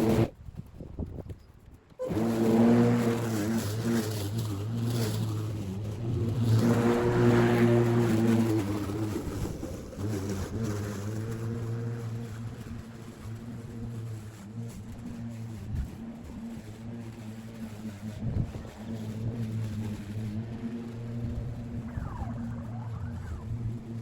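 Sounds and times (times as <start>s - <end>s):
lawn mower cutting grass: 0.0s - 0.3s, 2.0s - 24.0s.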